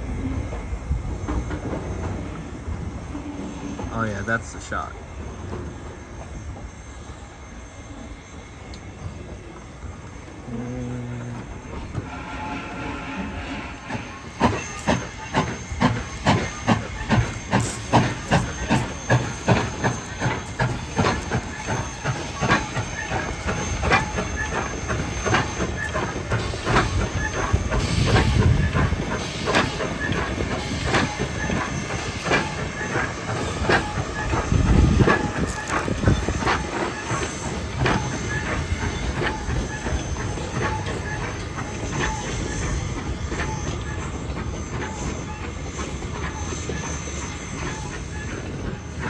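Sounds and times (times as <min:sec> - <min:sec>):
steady hiss of steam: 0:00.0 - 0:49.0
steam locomotive exhaust chuffs: 0:00.0 - 0:49.0.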